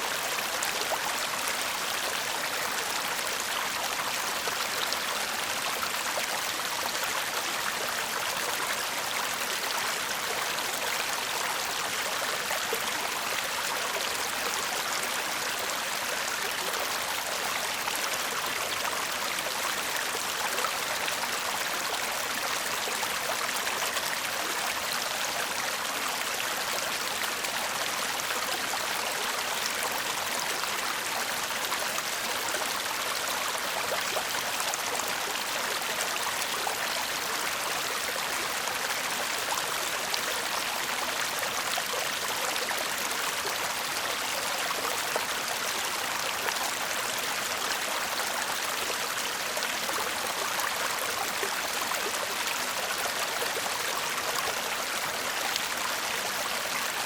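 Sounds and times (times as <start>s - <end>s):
shallow stream babbling: 0.0s - 57.0s.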